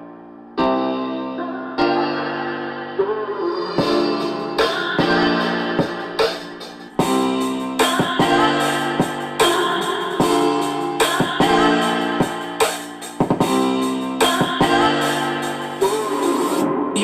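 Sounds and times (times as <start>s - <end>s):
pop song through car speakers: 2.9s - 17.0s.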